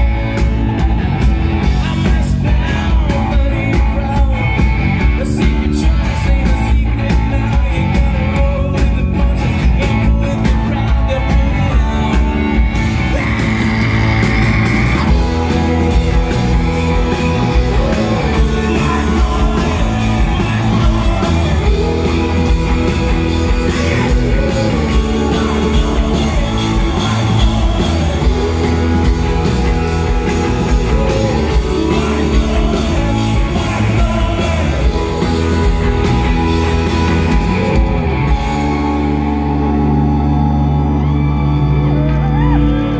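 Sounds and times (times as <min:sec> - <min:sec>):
bass guitar: 0:00.0 - 0:42.9
drum kit: 0:00.0 - 0:42.9
electric guitars: 0:00.0 - 0:42.9
man singing: 0:01.6 - 0:14.3, 0:15.0 - 0:39.5.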